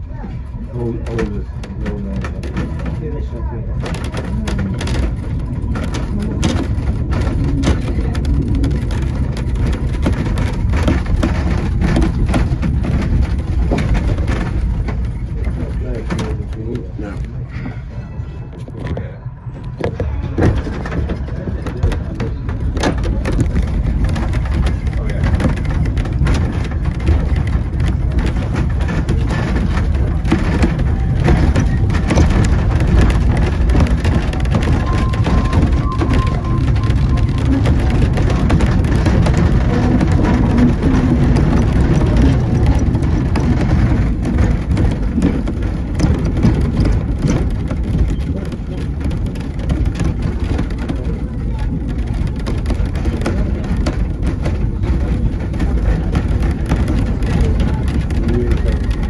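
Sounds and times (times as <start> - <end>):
railway carriage rumbling: 0.0 - 59.0
wheels clicking on rails: 0.0 - 59.0.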